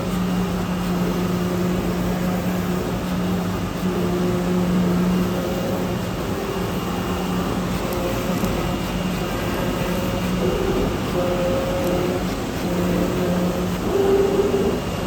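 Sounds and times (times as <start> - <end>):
cutting machine humming: 0.0 - 15.0.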